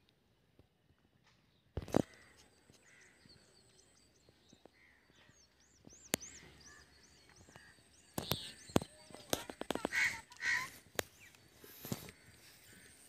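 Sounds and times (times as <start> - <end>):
soft bird calls: 1.2 - 13.0
bird chirping: 1.5 - 13.0.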